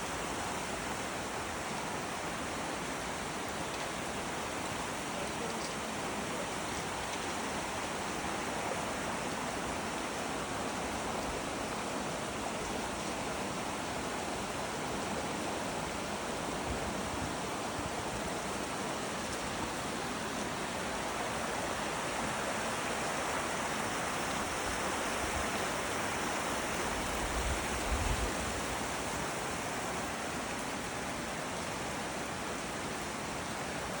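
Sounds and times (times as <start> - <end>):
creek water rushing over rocks: 0.0 - 34.0.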